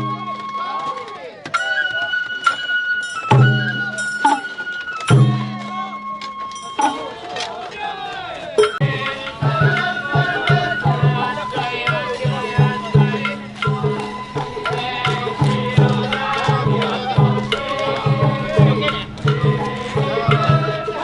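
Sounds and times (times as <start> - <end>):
taiko drums beating: 0.0 - 0.8, 3.3 - 7.1, 8.6 - 21.0
bamboo flute melody: 0.0 - 21.0.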